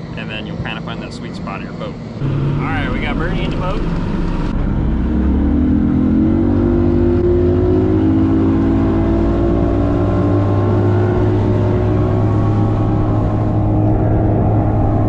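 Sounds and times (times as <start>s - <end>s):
outboard motor accelerating: 2.1s - 15.0s.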